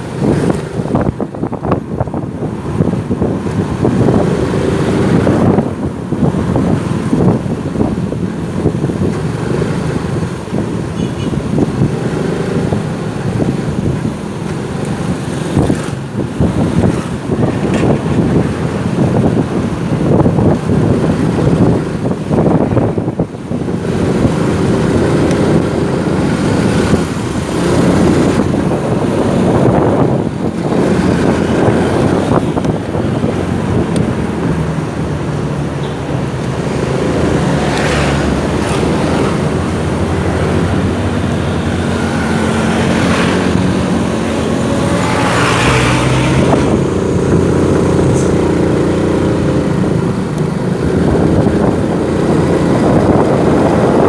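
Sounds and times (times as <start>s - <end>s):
motorcycle engine revving: 0.0s - 54.0s
street traffic: 0.0s - 54.0s
vehicles passing close by: 0.0s - 54.0s
wind on microphone: 0.0s - 54.0s.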